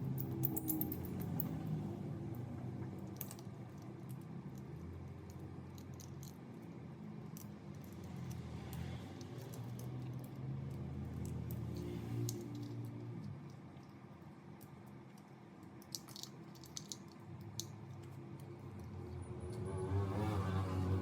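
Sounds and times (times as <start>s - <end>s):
small parts clicking and tapping: 0.0s - 1.6s, 2.8s - 19.6s.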